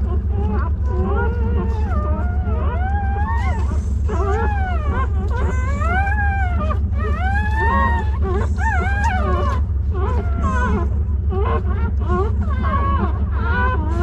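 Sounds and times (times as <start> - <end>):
puppies whimpering: 0.0 - 14.0
steady low hum: 0.0 - 14.0.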